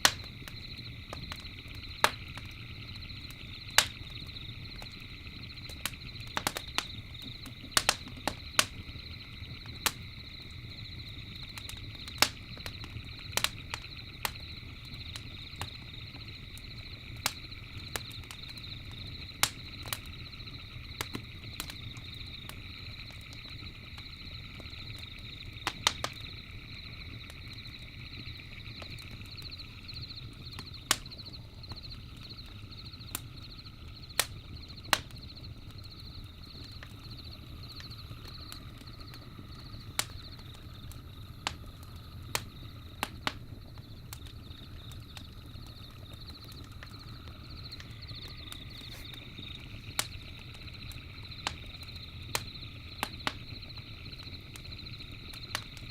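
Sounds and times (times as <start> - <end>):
campfire crackling and popping: 0.0 - 55.9
night animals chirring: 0.0 - 55.9.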